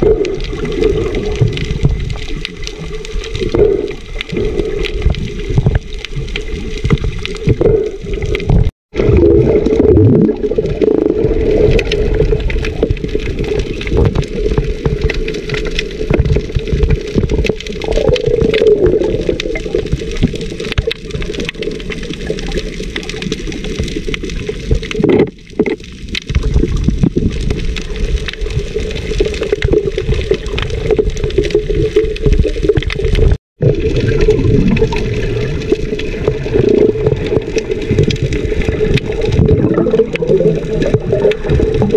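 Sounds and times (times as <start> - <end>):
muffled underwater water rushing: 0.0 - 41.9.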